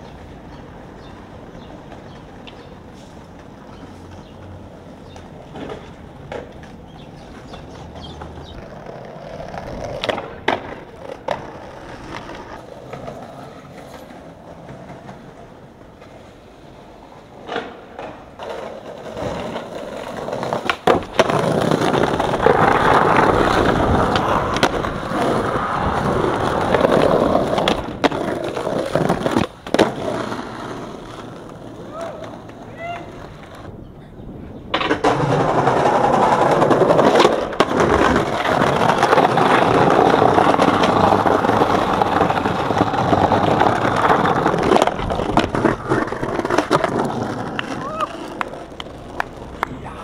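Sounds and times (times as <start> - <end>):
skateboard clacks: 0.0 - 33.8, 34.7 - 50.0
skateboard wheels rolling on pavement: 0.0 - 50.0.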